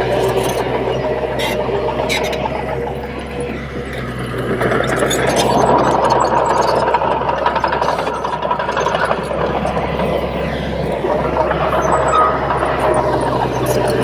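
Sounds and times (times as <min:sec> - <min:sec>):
bulldozer diesel engine running: 0:00.0 - 0:14.0
rough mechanical noise: 0:00.0 - 0:14.0.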